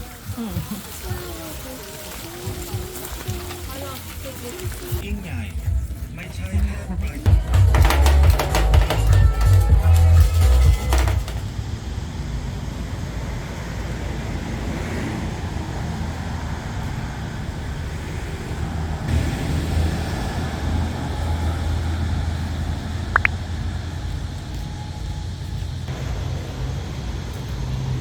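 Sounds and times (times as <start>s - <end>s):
vehicle road noise rumble: 2.4s - 28.0s.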